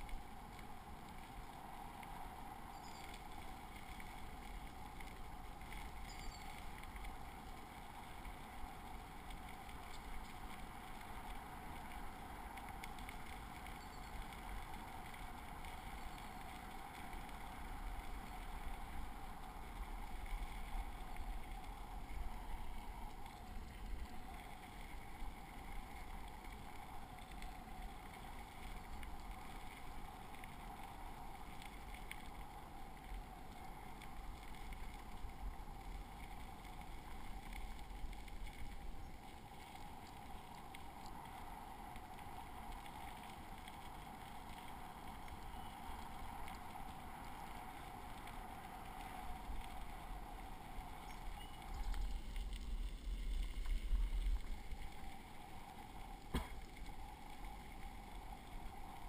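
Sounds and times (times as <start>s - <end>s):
bicycle tyres rolling over gravel: 0.0s - 59.0s.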